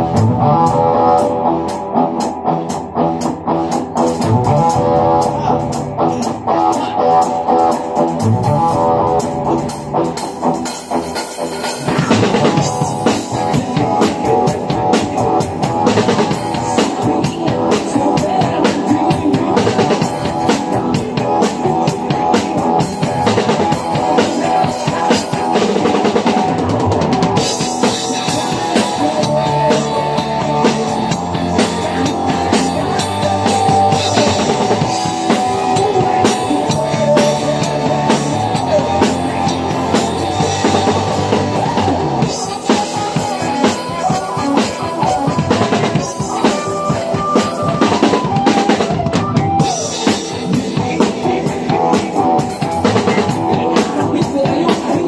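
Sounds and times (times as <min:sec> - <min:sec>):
drum kit rock groove: 0:00.0 - 0:55.0
rock song with bass and guitar: 0:00.0 - 0:55.0.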